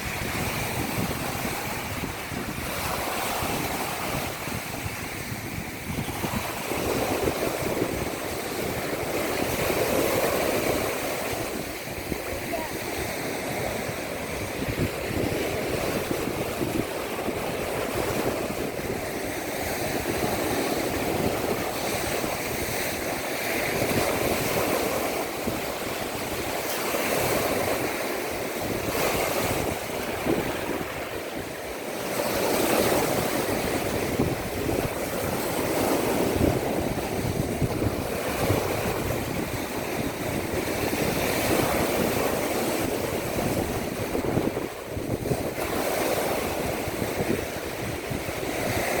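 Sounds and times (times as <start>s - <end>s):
surf washing onto shore: 0.0s - 49.0s
wind rumbling on microphone: 0.0s - 49.0s.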